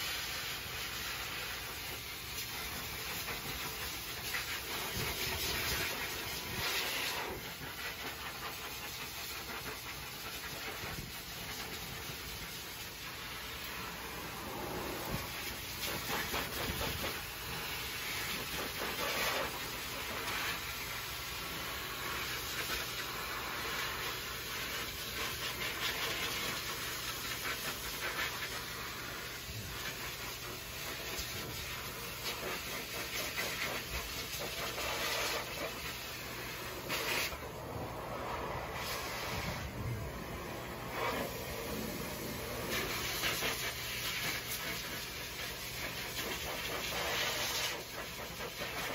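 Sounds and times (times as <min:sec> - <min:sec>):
dryer blowing air: 0:00.0 - 0:48.9.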